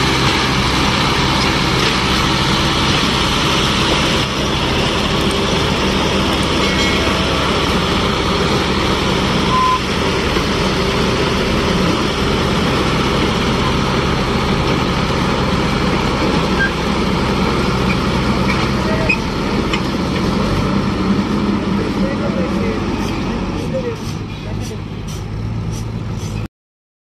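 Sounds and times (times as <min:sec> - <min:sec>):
tractor diesel engines running: 0:00.0 - 0:26.5.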